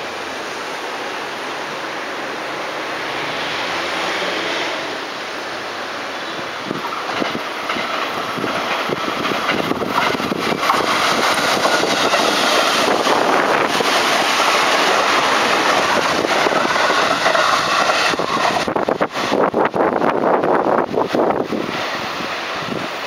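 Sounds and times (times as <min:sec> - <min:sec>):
train wheels rolling on rails: 0:00.0 - 0:23.0.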